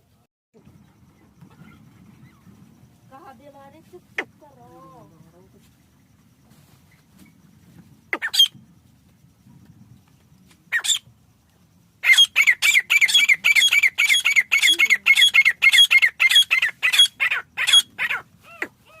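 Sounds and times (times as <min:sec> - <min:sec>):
francolin calling: 0:00.6 - 0:08.8, 0:10.5 - 0:19.0.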